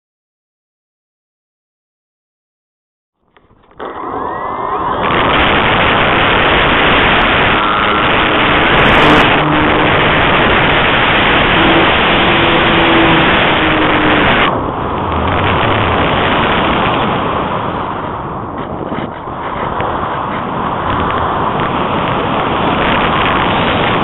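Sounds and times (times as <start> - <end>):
rushing airflow over microphone: 3.3 - 24.0.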